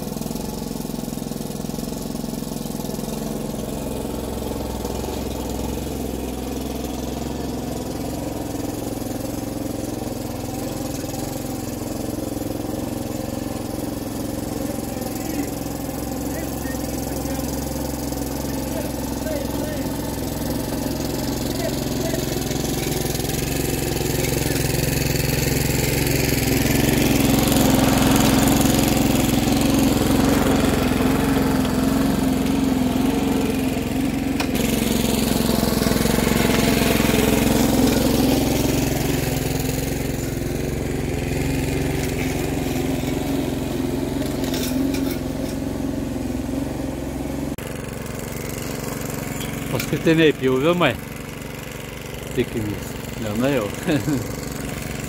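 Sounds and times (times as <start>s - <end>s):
lawn mower cutting grass: 0.0s - 55.0s.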